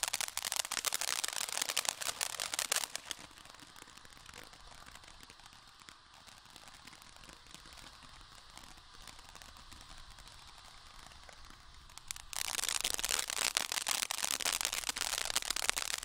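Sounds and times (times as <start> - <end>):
firework fountain hissing: 0.0 - 16.0
light crackles: 0.0 - 16.0.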